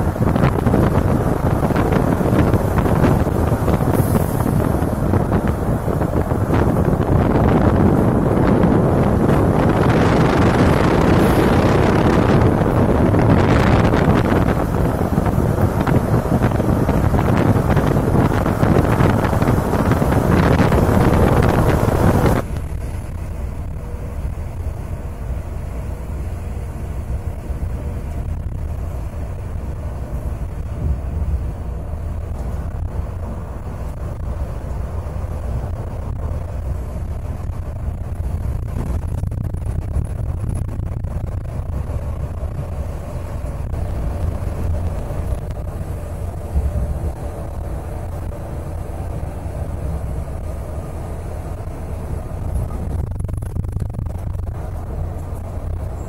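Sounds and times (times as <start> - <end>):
coach engine drone: 0.0 - 56.0
wind and road noise: 0.0 - 56.0.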